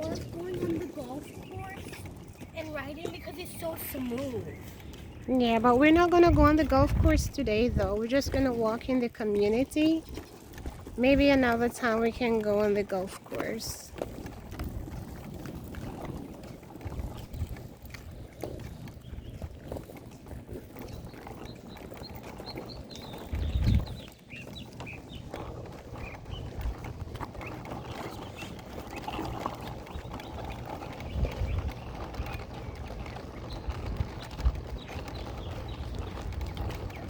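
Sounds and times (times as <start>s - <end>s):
footsteps on pavement: 0.0s - 37.0s
wind buffeting microphone: 0.0s - 37.0s.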